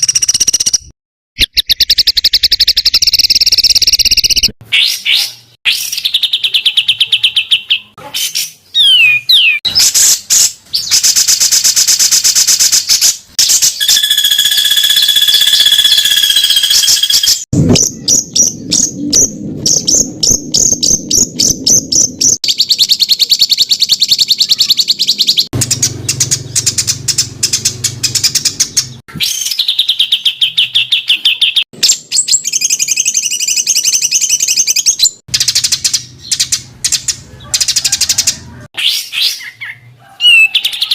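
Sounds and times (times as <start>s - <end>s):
bird whistle: 0.0s - 18.8s, 20.6s - 37.0s, 37.6s - 40.9s
songbird trilling: 1.4s - 10.1s, 10.8s - 40.9s.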